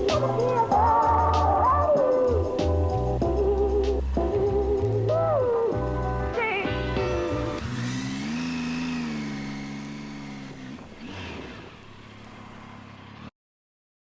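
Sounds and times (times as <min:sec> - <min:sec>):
motorcycle engine revving: 0:00.0 - 0:13.3.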